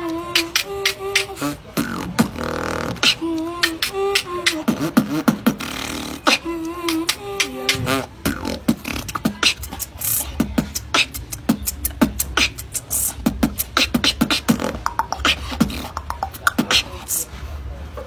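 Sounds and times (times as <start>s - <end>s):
person beatboxing: 0.0s - 17.5s.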